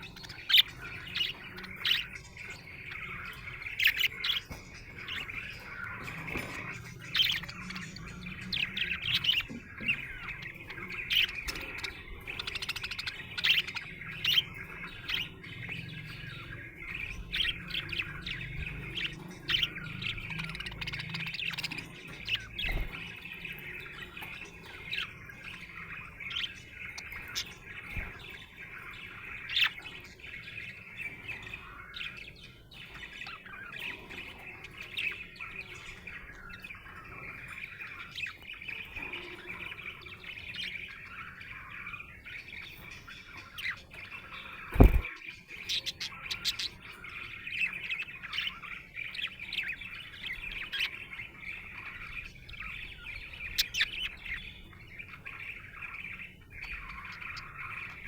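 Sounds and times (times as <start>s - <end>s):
budgerigar chirping and chattering: 0.0s - 58.0s.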